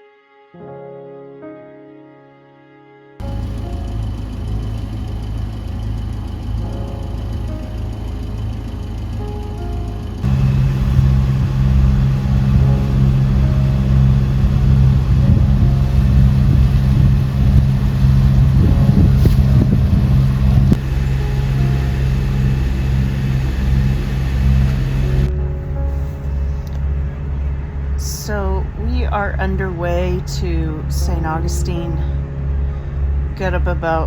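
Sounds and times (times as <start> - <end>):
boat engine humming: 3.2 - 34.0.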